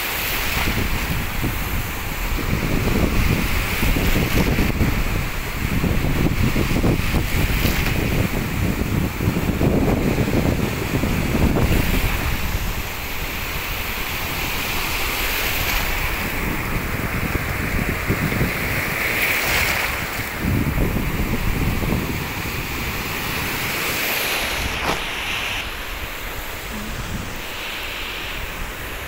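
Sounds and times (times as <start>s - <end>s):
sea surf breaking: 0.0s - 29.0s
wind buffeting microphone: 0.0s - 29.0s.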